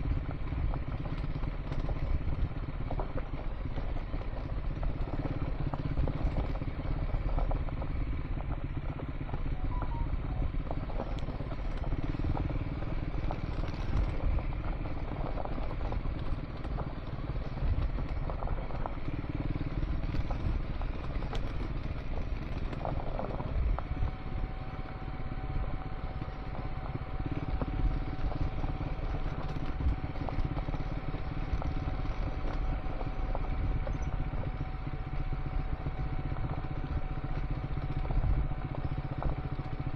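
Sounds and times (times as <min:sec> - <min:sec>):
motorcycle engine running: 0:00.0 - 0:39.9
thin steady whine: 0:01.8 - 0:39.9.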